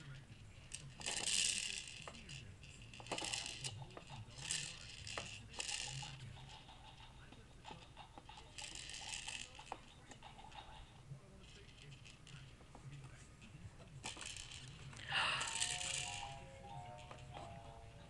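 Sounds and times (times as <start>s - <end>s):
loose pieces rattling in plastic toy: 0.6s - 12.6s, 14.0s - 18.0s.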